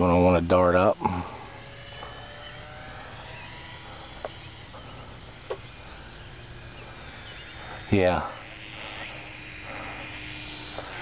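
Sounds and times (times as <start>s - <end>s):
low steady hum: 0.0s - 11.0s
rc plane motor whining: 0.0s - 11.0s.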